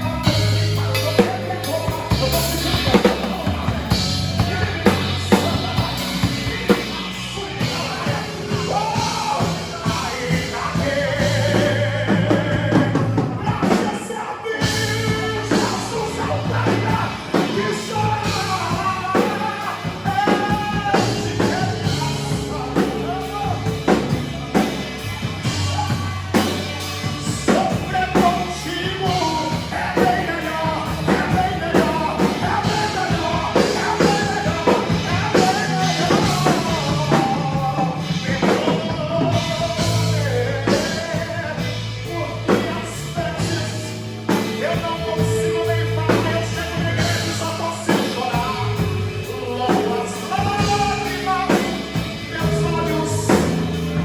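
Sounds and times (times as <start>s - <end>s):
live band playing rock worship song: 0.0s - 54.0s.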